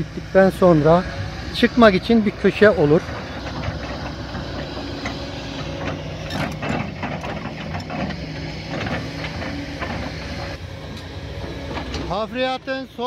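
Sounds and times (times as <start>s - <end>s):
excavator diesel engine running: 0.0s - 13.0s
metal clanks and rattles: 0.4s - 13.0s.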